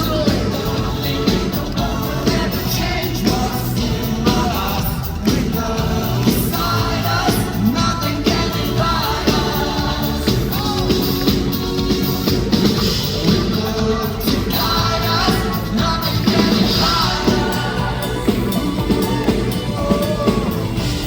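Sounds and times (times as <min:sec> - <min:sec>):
man singing live: 0:00.0 - 0:12.2, 0:13.0 - 0:21.0
drums keeping steady beat: 0:00.0 - 0:21.0
rock band playing: 0:00.0 - 0:21.0.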